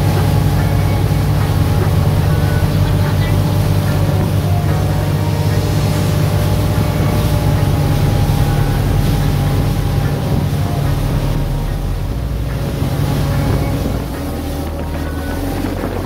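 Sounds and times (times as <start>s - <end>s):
motorboat engine humming: 0.0s - 16.0s.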